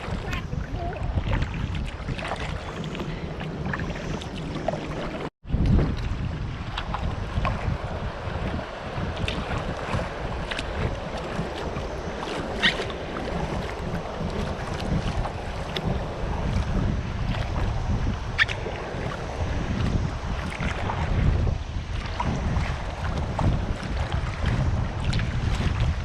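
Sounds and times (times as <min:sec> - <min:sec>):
water lapping against hull: 0:00.0 - 0:26.0
wind buffeting microphone: 0:00.0 - 0:26.0.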